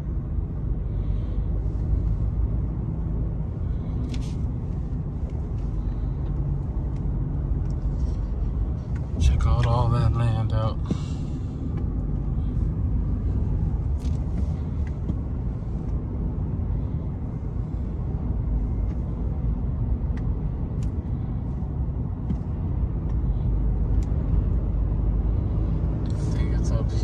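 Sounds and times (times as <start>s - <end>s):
vehicle road and engine rumble: 0.0s - 27.0s.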